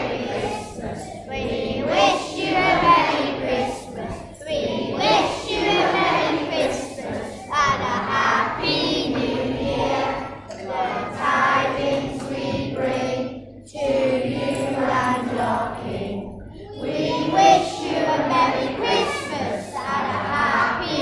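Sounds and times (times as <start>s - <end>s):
young children singing: 0.0s - 21.0s.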